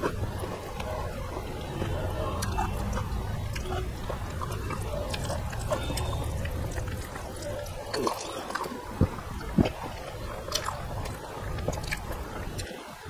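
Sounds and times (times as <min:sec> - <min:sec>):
man chewing food: 0:00.0 - 0:13.0.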